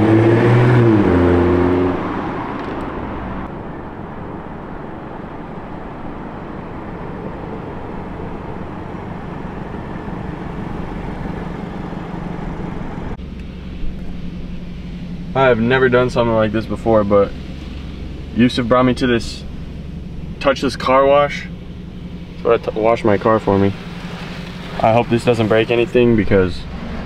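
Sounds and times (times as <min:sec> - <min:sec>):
car engine: 0:00.0 - 0:27.0
low hum: 0:00.0 - 0:27.0
road and tyre rumble: 0:00.0 - 0:27.0.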